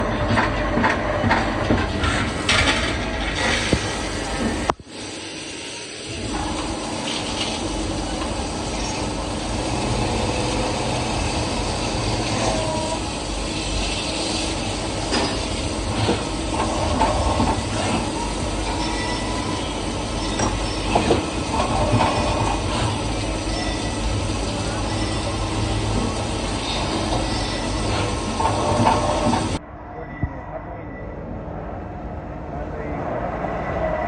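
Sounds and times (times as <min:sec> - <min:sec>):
machine hum and hiss: 0:00.8 - 0:29.6.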